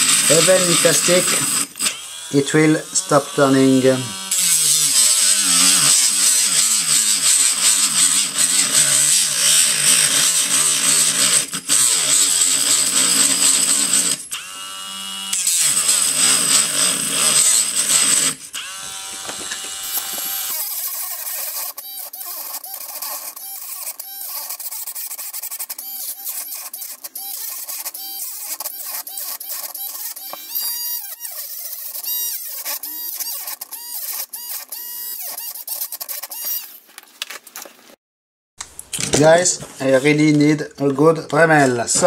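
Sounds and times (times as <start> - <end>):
rotary tool motor whine: 0.0 - 36.9
rotary tool cutting plastic: 0.0 - 37.7.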